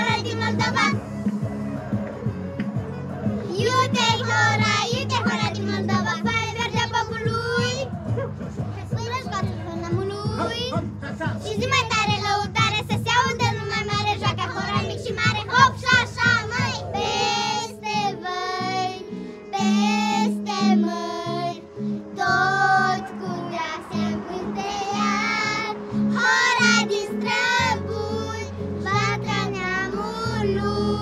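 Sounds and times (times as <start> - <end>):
girls singing karaoke: 0.0 - 1.2, 3.2 - 31.0
backing track music: 0.0 - 31.0.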